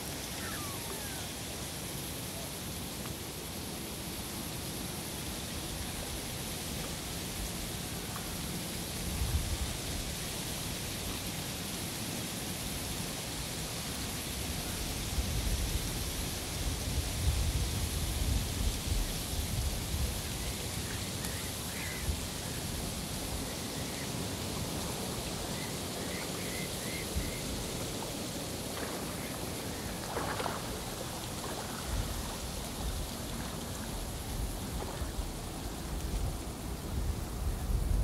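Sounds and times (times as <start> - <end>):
rain-like electronic hiss: 0.0 - 38.0.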